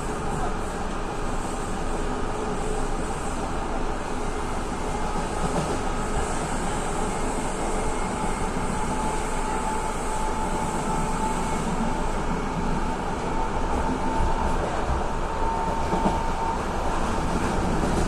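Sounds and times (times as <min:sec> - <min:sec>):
train wheels on rails rumbling: 0:00.0 - 0:18.0.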